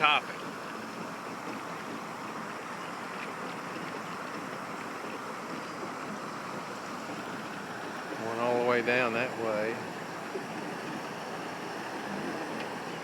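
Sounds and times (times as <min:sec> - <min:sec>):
floodwater rushing over levee: 0:00.0 - 0:13.0.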